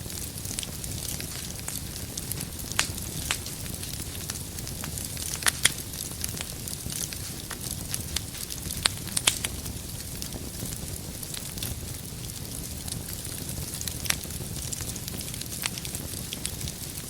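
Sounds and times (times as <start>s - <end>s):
firewood popping and snapping: 0.0s - 17.0s
low rush of burning fire: 0.0s - 17.0s.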